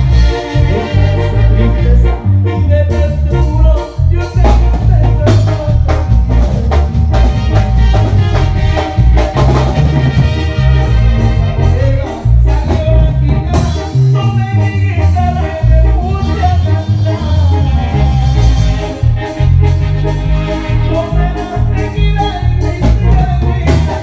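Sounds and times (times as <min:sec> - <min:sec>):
drum kit beat: 0:00.0 - 0:01.7, 0:02.9 - 0:24.0
live band playing latin dance music: 0:00.0 - 0:24.0.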